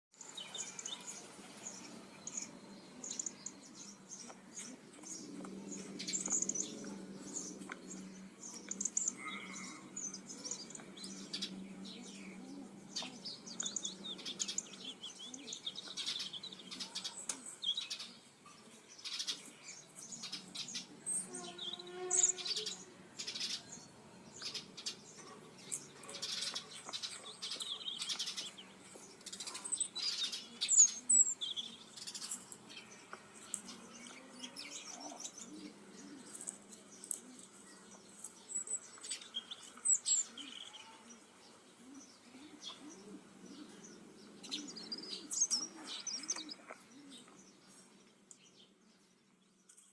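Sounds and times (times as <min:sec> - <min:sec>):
small birds chirping and singing: 0:00.1 - 0:49.9.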